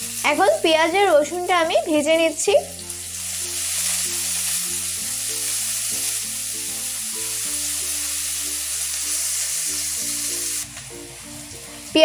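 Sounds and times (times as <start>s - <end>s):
onion and garlic sizzling in oil: 0.0s - 12.0s
soft background music: 0.0s - 12.0s.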